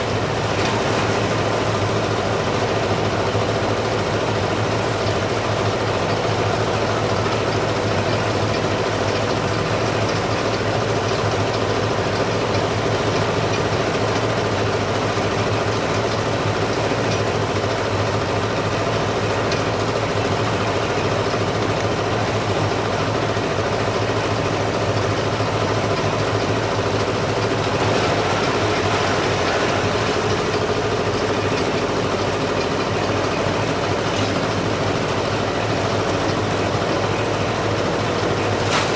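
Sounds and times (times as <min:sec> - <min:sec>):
heavy engine idling: 0:00.0 - 0:38.9.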